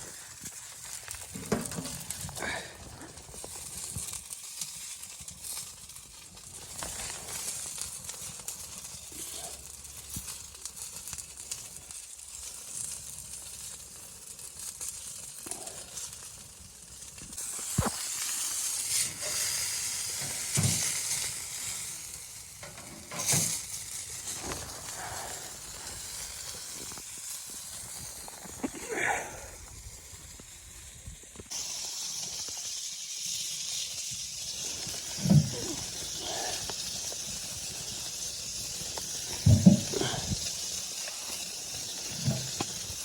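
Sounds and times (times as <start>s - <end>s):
steady sizzling hiss: 0.0s - 43.0s.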